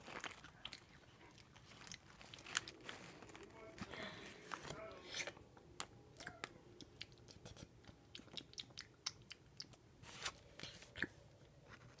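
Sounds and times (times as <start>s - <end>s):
chewing and crunching snacks: 0.0s - 12.0s.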